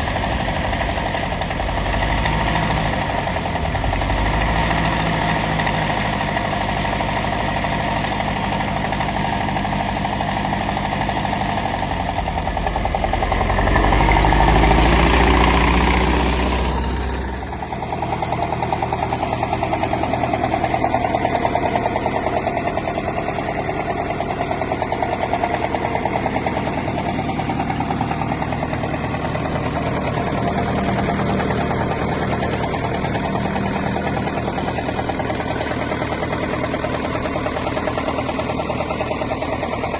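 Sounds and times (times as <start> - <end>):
tractor engine idling and revving: 0.0 - 39.9.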